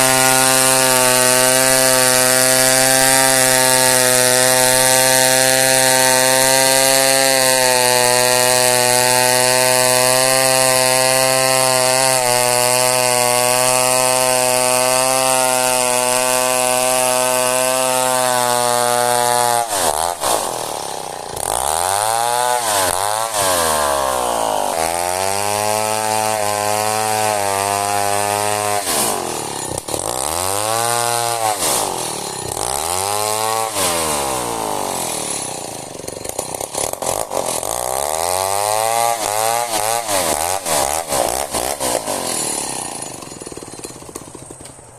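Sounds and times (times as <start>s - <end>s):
chainsaw sawing through wood: 0.0s - 44.9s.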